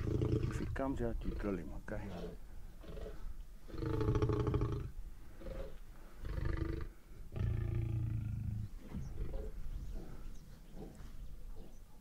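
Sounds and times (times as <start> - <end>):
lion growling and grunting: 0.0 - 11.8.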